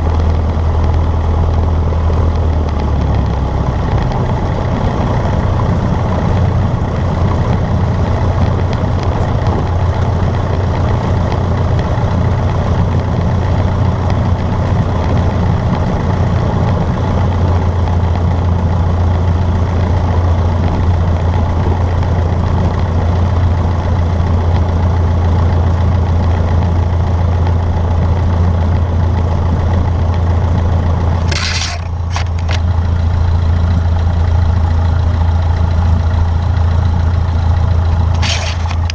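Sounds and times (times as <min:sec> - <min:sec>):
small plane engine droning: 0:00.0 - 0:38.9.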